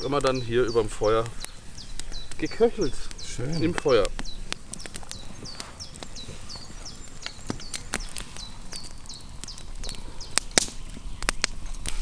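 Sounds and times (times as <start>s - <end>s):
campfire wood crackling and popping: 0.0s - 12.0s.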